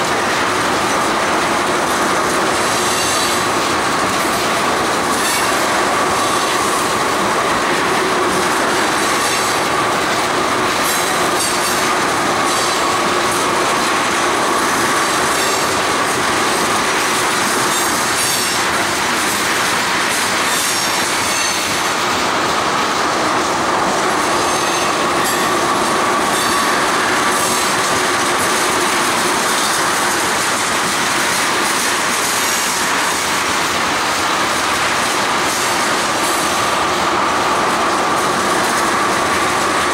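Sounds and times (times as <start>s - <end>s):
train cars rumbling and rattling: 0.0s - 39.9s.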